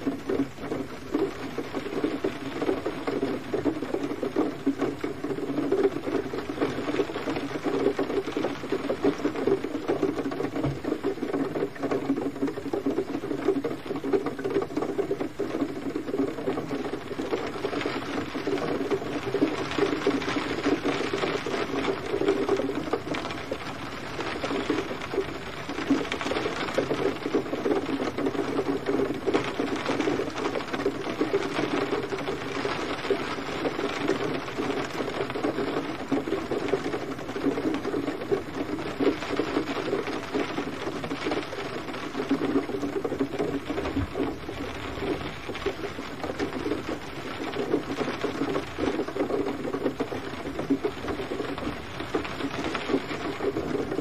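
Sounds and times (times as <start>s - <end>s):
gentle rain: 0.0s - 54.0s.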